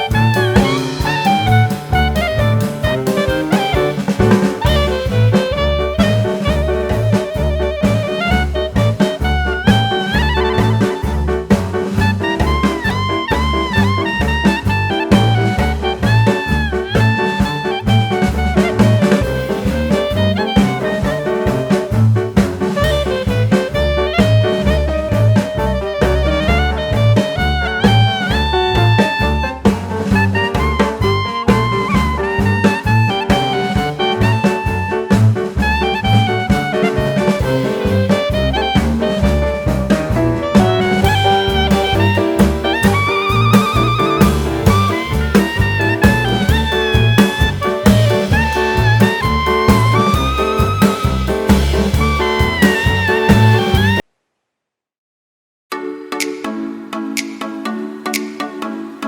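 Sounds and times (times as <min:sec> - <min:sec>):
jazz music with brass: 0:00.0 - 0:54.0.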